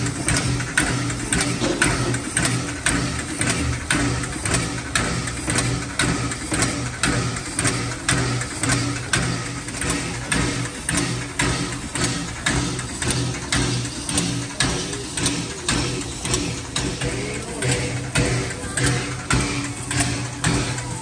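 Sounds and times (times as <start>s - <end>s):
steam air pump chugging: 0.0s - 21.0s
steam hissing: 0.0s - 21.0s.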